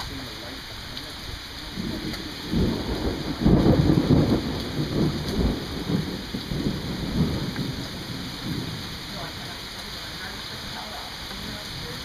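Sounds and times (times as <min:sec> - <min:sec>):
steady rain: 0:00.0 - 0:12.0
rolling thunder: 0:01.2 - 0:10.9.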